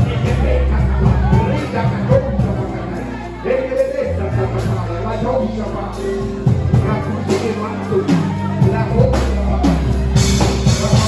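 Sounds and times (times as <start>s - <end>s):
worship band playing: 0.0s - 11.0s.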